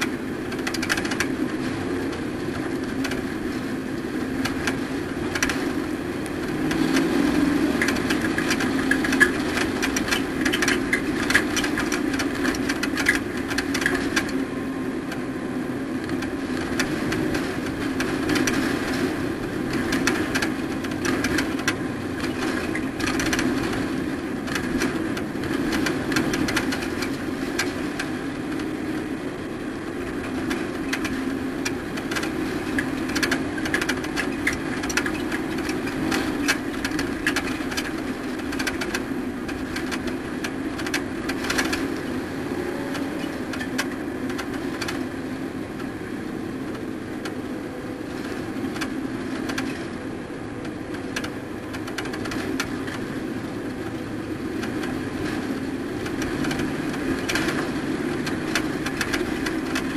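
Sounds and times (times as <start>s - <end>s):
sharp rattles and clicks: 0.0s - 59.9s
truck engine running: 0.0s - 59.9s.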